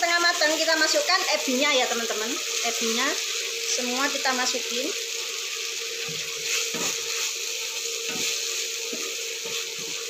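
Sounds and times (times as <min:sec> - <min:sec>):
spice paste sizzling in a frying pan: 0:00.0 - 0:10.0.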